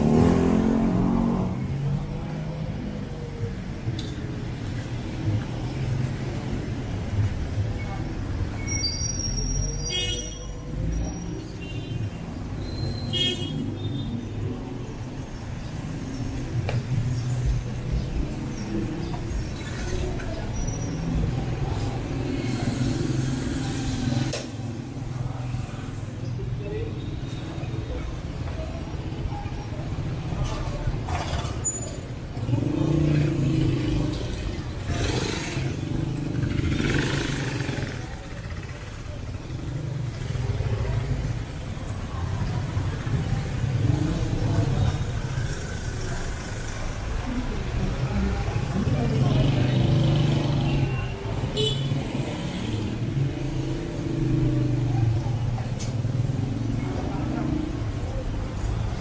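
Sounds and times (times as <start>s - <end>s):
vehicle engines passing by: 0.0s - 59.0s.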